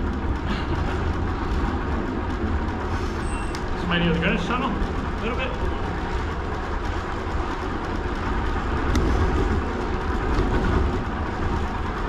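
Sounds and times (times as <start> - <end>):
bicycle rolling noise: 0.0 - 12.0.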